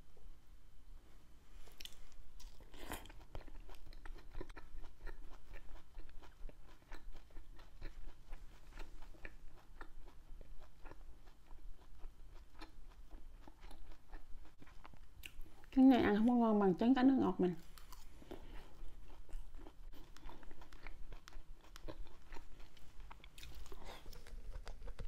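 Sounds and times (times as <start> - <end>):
wet chewing clicks and smacks: 1.8 - 15.8, 17.6 - 25.0.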